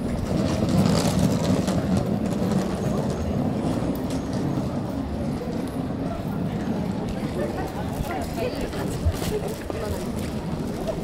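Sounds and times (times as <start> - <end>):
motor traffic rumble: 0.0 - 11.0.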